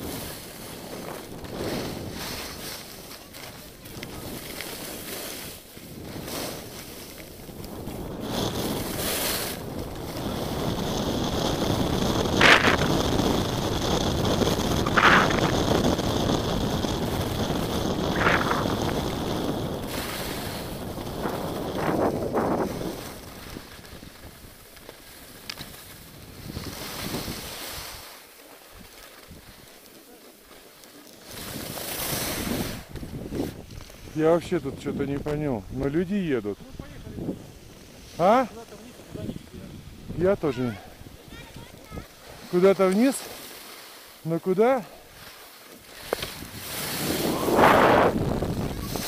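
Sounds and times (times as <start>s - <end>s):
wind on microphone: 0.0s - 24.6s, 25.9s - 28.1s, 31.4s - 38.3s, 38.9s - 42.5s, 46.1s - 49.0s
skis scraping over packed snow: 0.0s - 49.0s.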